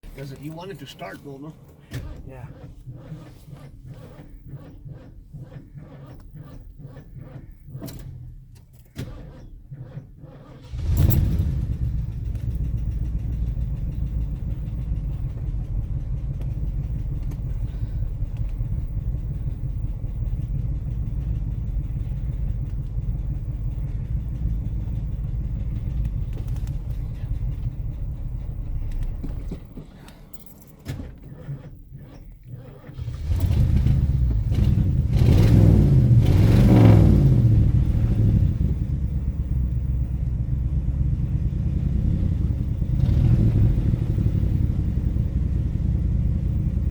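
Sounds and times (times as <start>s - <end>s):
car engine rumbling and revving: 0.0s - 46.9s.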